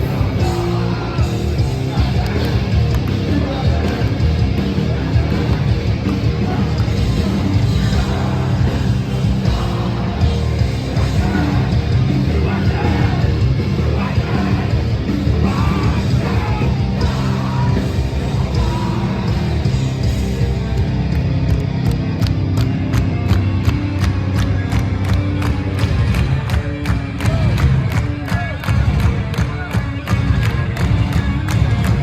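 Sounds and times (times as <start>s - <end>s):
metal band playing live: 0.0s - 32.0s.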